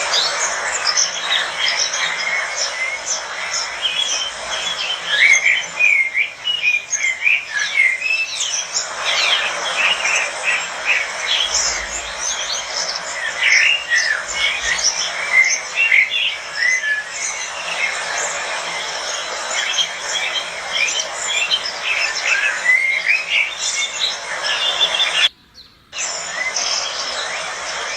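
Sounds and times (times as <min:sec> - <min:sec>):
parrots chattering: 0:00.0 - 0:07.8, 0:08.4 - 0:25.2.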